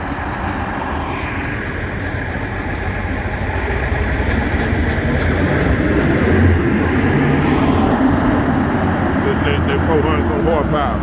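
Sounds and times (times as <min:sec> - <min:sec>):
truck diesel engine under load: 0:00.0 - 0:11.0.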